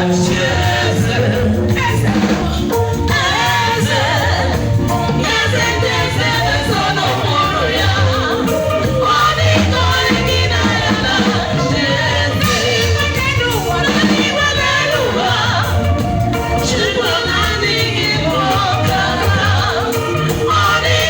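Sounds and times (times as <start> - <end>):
bass guitar low notes: 0.0 - 21.0
live band music: 0.0 - 21.0
women singing together: 0.0 - 21.0.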